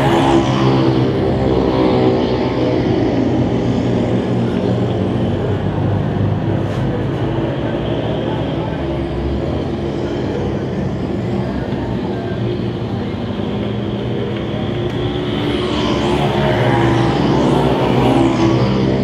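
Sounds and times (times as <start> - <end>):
racing car engines droning: 0.0 - 19.0.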